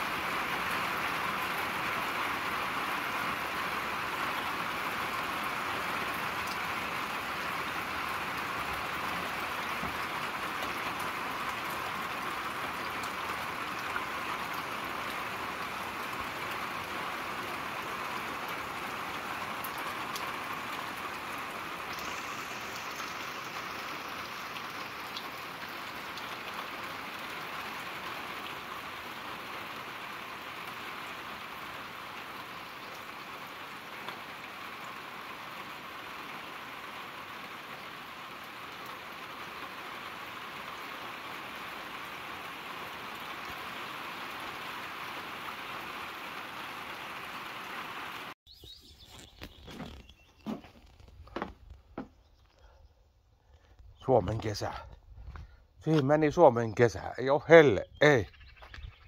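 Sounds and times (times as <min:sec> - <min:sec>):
steady rain hiss: 0:00.0 - 0:48.4, 0:53.4 - 0:58.2.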